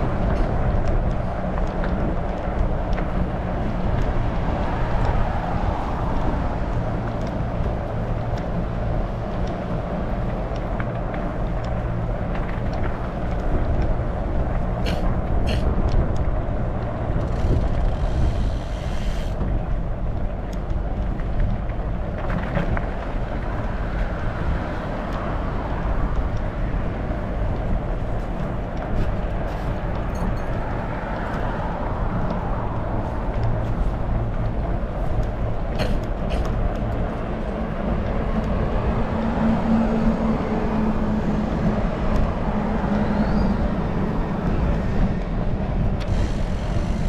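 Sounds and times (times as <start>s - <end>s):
bike road noise: 0.0s - 47.0s
wind on microphone: 0.0s - 47.0s.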